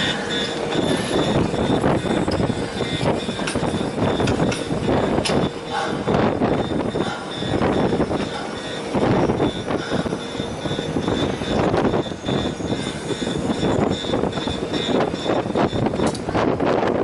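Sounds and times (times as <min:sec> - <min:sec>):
thin high-pitched whine: 0:00.0 - 0:16.6
wind buffeting microphone: 0:00.0 - 0:17.0.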